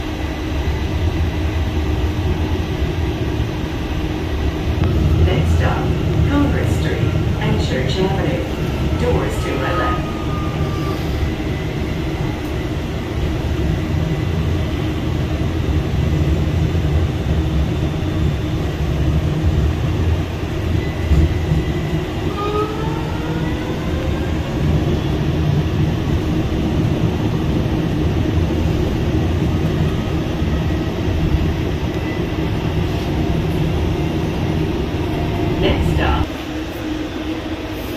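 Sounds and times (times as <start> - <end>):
streetcar low rumble: 0.0 - 37.9.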